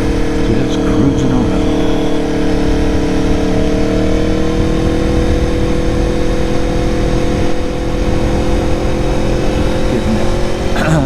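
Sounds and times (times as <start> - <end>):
wind rumble: 0.0 - 10.8
motorcycle engine cruising: 0.0 - 11.0.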